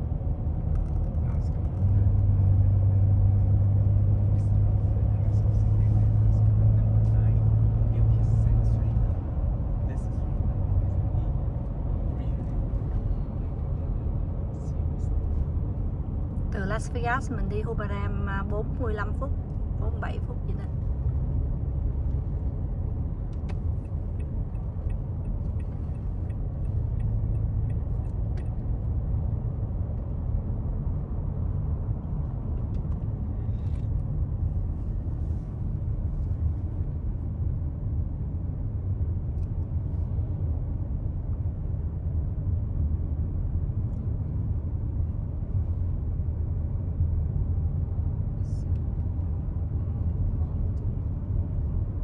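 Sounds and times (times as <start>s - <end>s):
car cabin road and engine rumble: 0.0s - 52.0s.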